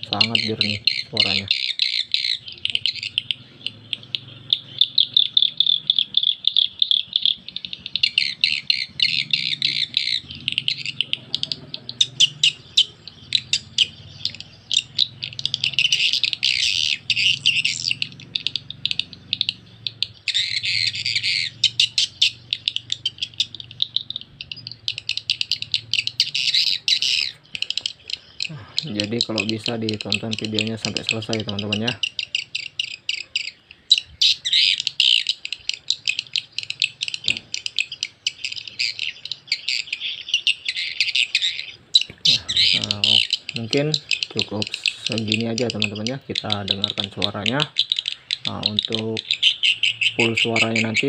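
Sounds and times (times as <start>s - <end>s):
rapid high twittering chirps: 0.0s - 51.0s.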